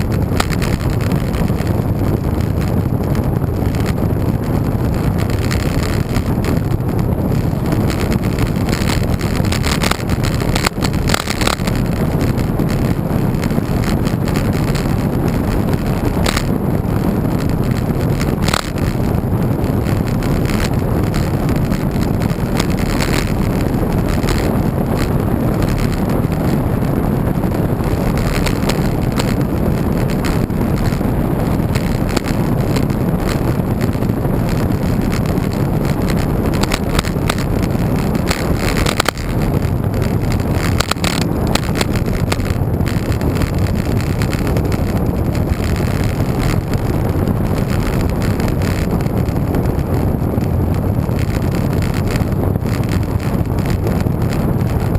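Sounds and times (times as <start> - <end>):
bike clicks and rattles: 0.0 - 54.9
wind rushing over microphone: 0.0 - 54.9.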